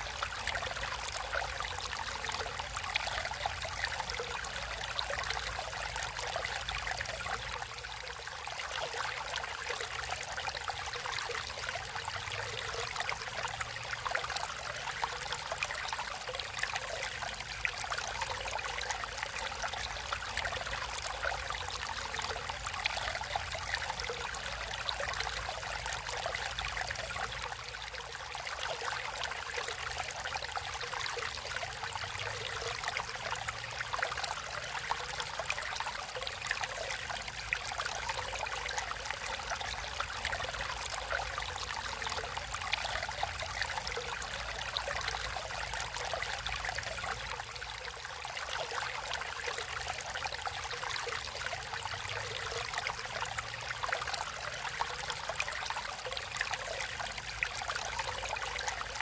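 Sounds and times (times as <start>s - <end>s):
stream babbling over rocks: 0.0s - 59.0s.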